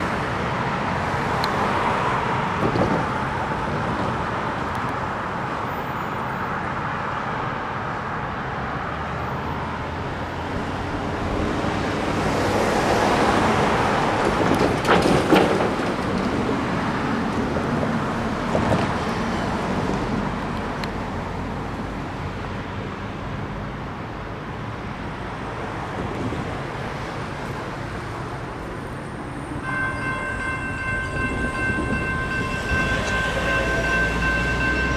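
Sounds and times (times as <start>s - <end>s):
vehicles passing on busy street: 0.0s - 34.9s.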